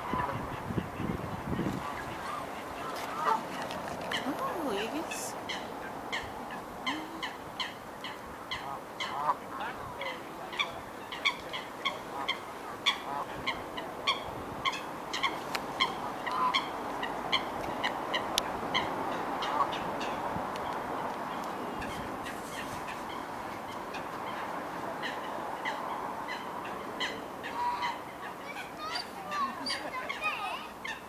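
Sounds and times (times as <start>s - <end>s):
waterfowl calling: 0.0s - 20.2s, 21.8s - 31.0s
steady background hiss: 0.0s - 31.0s.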